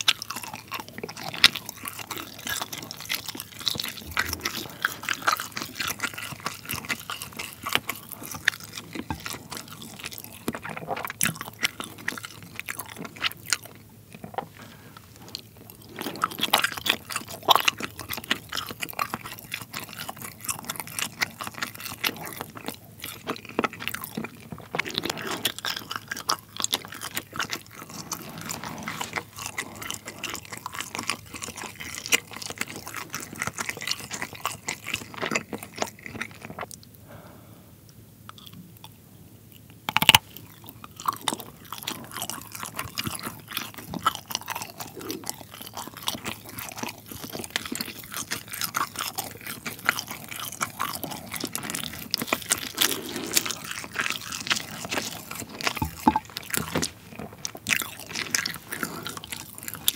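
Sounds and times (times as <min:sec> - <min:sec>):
chewing string cheese: 0:00.0 - 0:37.3, 0:37.9 - 0:59.9.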